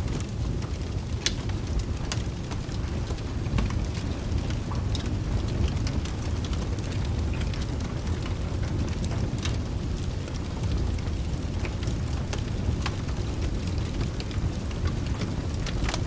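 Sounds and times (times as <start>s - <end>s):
steady rain: 0.0s - 16.0s
wood fire crackling and popping: 0.0s - 16.0s.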